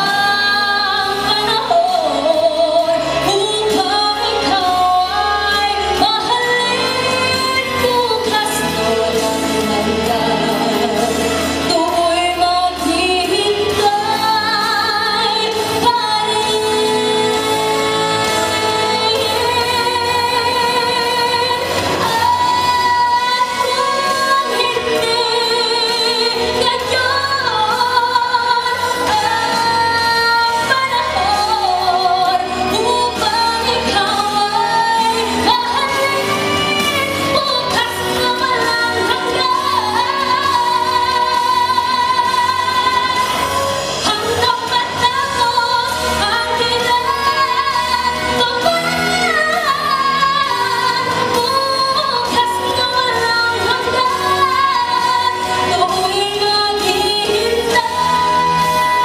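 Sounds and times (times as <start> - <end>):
woman singing into microphone: 0.0 - 59.0.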